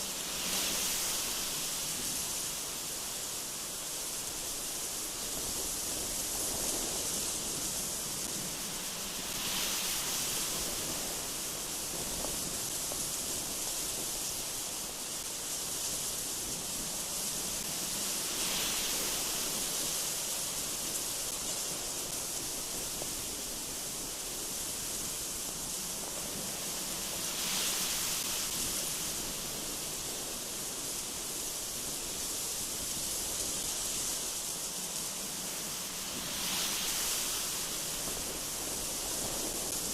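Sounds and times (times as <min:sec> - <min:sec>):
strong gusty wind: 0:00.0 - 0:39.9.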